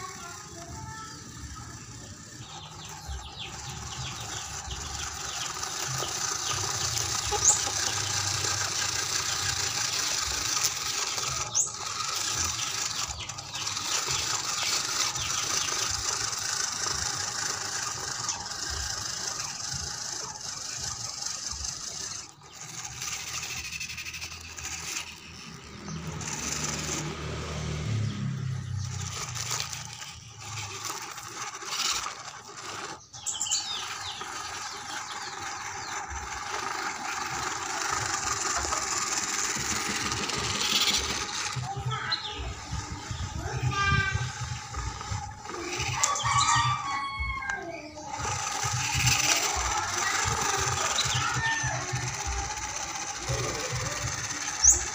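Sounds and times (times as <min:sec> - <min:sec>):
small electric motor whining: 0:00.0 - 0:54.9
tyres rattling over gravel: 0:00.0 - 0:54.9.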